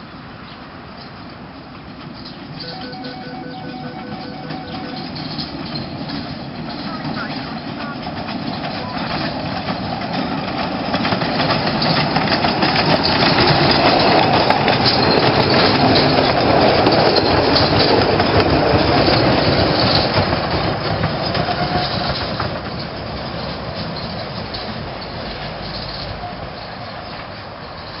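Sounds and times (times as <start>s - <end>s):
train wheels on rails: 0.2s - 28.0s.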